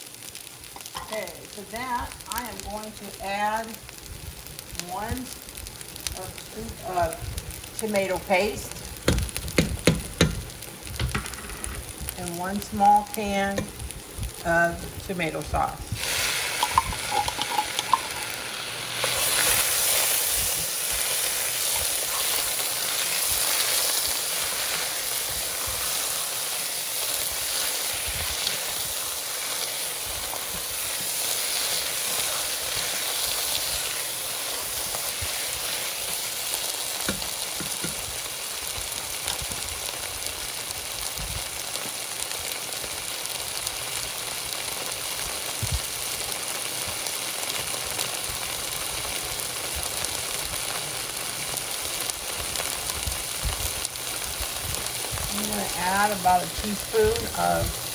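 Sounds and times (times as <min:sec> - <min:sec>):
sauce sizzling in a pot: 0:00.0 - 0:57.9.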